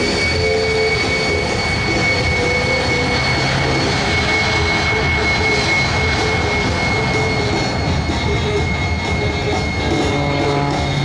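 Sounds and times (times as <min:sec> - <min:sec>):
jet engine rumble with high whine: 0:00.0 - 0:11.0.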